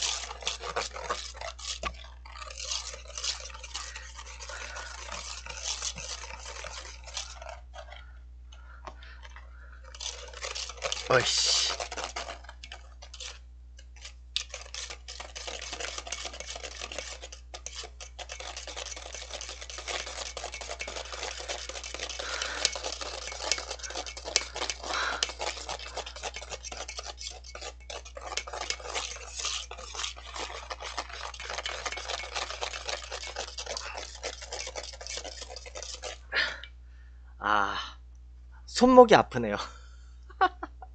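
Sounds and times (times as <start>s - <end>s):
whisk clattering in metal bowl: 0.0s - 8.0s, 9.2s - 36.2s.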